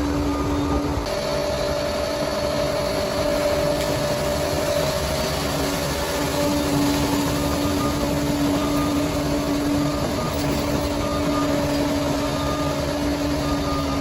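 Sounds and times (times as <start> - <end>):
bulldozer diesel engine droning: 0.0 - 14.0
faint high whines: 0.0 - 14.0.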